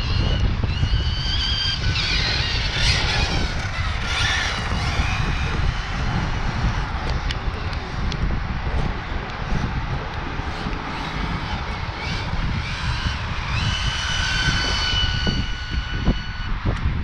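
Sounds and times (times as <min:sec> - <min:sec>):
electric motor whining: 0:00.0 - 0:17.0
wind buffeting microphone: 0:00.0 - 0:17.0.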